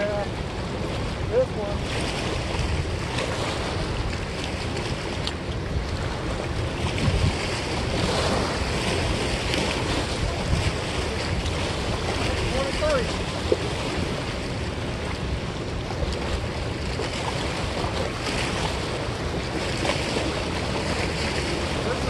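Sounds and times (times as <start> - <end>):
fast-flowing river rushing: 0.0 - 22.0
wind buffeting microphone: 0.0 - 22.0.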